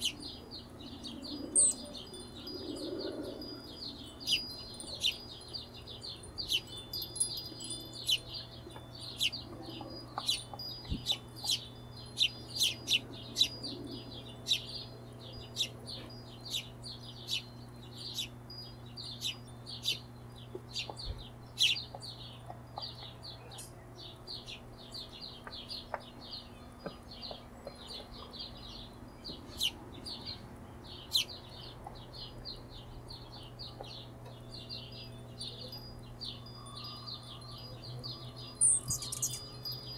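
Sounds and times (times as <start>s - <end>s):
hummingbird chip calls: 0.0s - 39.9s
steady low hum: 0.0s - 39.9s.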